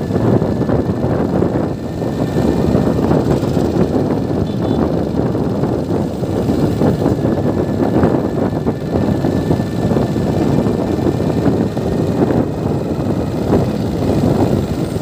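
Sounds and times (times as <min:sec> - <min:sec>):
motorbike engine rumbling: 0:00.0 - 0:15.0
road and wind noise: 0:00.0 - 0:15.0.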